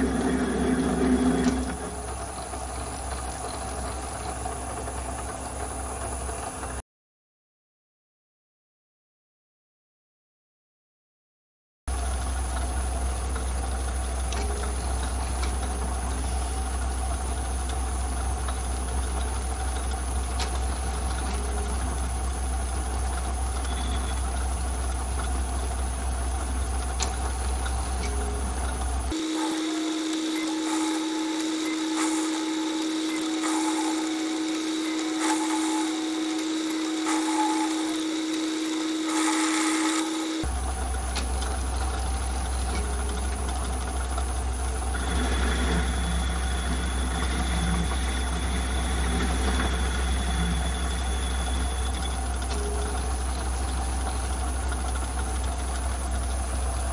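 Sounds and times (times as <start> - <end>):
metal lathe motor humming: 0.0 - 6.8, 11.9 - 56.9
mid-pitched whine: 0.0 - 6.8, 11.9 - 56.9.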